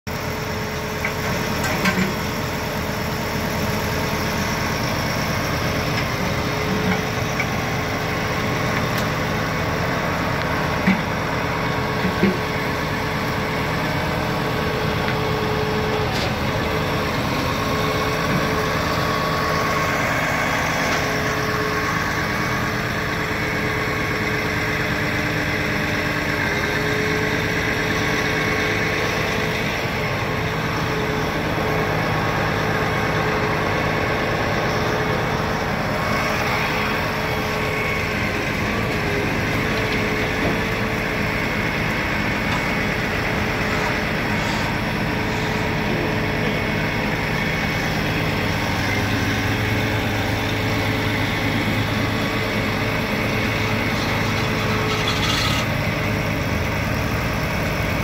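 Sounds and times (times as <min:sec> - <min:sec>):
diesel engine idling: 0:00.1 - 0:58.0.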